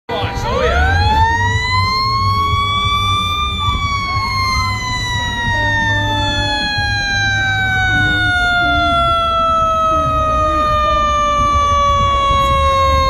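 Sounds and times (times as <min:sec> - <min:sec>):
faint gliding siren tones: 0:00.1 - 0:13.0
low engine rumble: 0:00.1 - 0:13.0
fire truck siren winding: 0:00.2 - 0:13.0.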